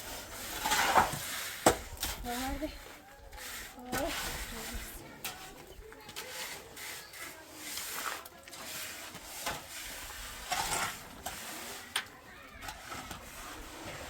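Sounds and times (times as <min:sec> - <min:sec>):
hand tool scraping wet mortar: 0:00.0 - 0:14.0.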